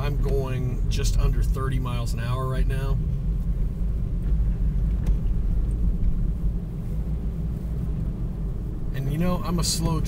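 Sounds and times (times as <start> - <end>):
vehicle rumble from inside cabin: 0.0 - 10.0.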